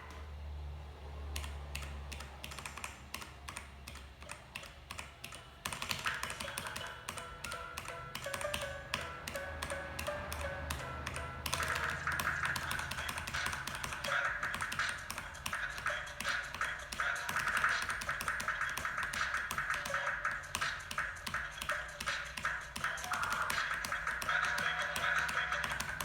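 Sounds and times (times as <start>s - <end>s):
rapid mechanical keyboard typing: 1.3s - 26.0s
rhythm game music: 4.2s - 26.0s.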